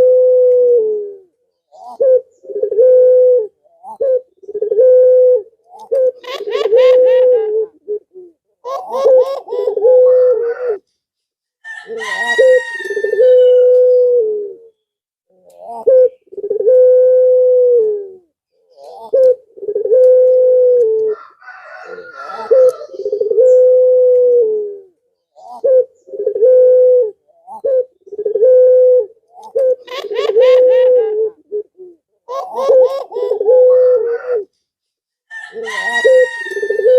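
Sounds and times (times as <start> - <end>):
dove cooing: 0.0 - 10.8, 11.6 - 14.8, 15.4 - 34.6, 35.3 - 36.9.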